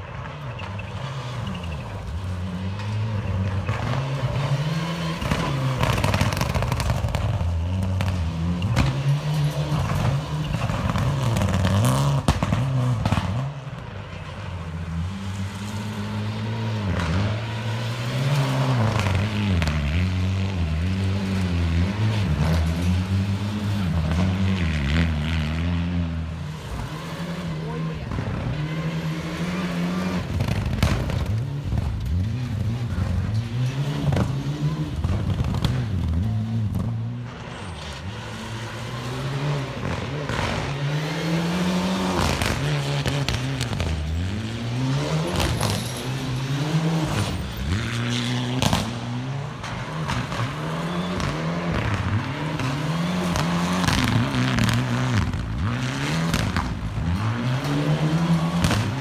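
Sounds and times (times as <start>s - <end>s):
rally cars accelerating: 0.0s - 59.0s.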